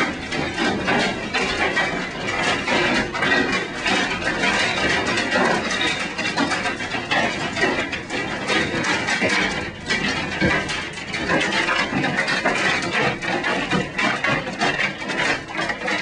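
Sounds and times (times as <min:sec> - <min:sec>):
hail pounding a building: 0:00.0 - 0:16.0.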